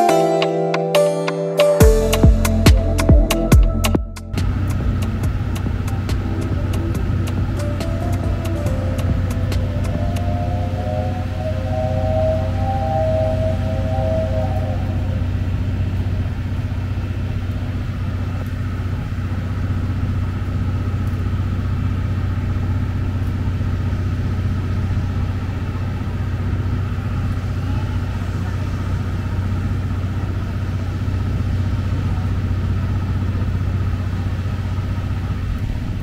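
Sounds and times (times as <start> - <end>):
train coach rumble: 1.8 - 36.0
faint whine: 1.9 - 36.0.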